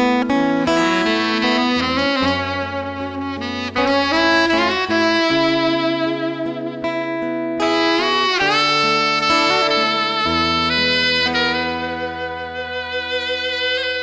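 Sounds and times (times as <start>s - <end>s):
guitar and bass backing: 0.0s - 14.0s
saxophone solo: 0.0s - 14.0s.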